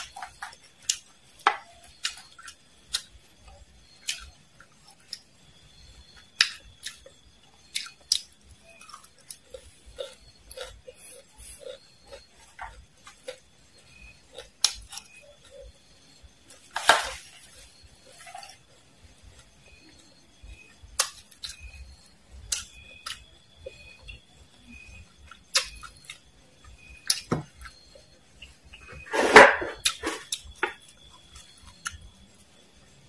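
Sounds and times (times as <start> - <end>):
close-miked crunchy eating: 0.0 - 32.3.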